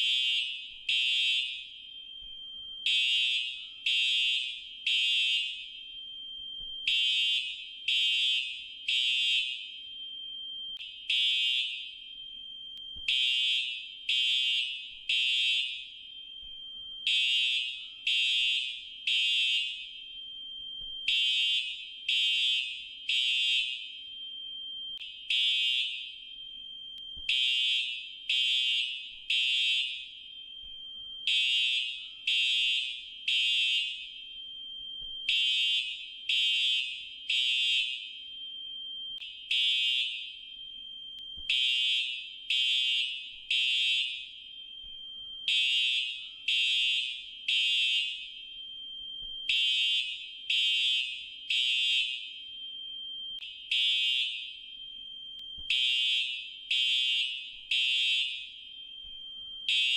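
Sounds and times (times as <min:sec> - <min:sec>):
fire alarm beeping: 0:00.0 - 0:59.9.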